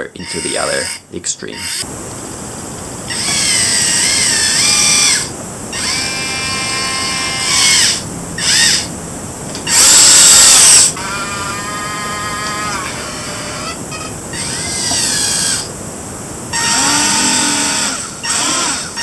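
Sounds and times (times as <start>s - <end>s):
small electric motors whining: 0.0s - 1.9s, 3.0s - 19.0s.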